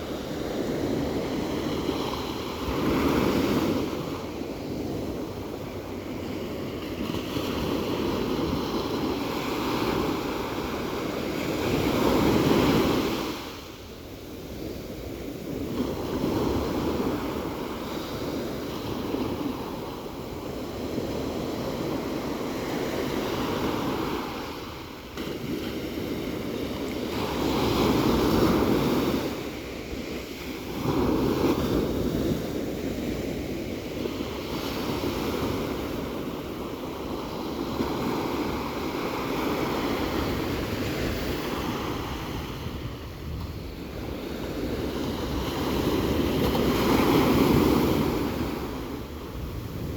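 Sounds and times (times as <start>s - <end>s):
ocean waves breaking: 0.0s - 49.9s.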